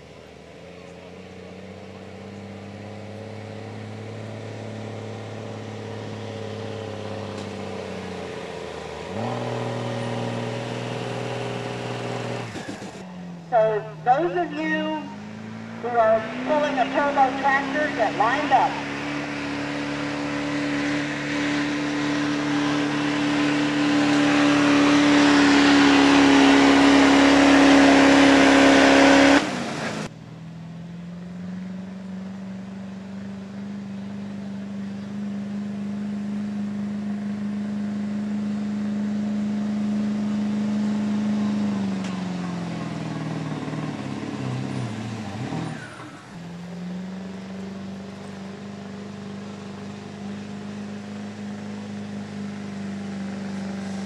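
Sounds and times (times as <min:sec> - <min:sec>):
tractor engine running hard: 0:00.0 - 0:30.4, 0:31.8 - 0:54.0
quieter lower engine note: 0:00.0 - 0:54.0.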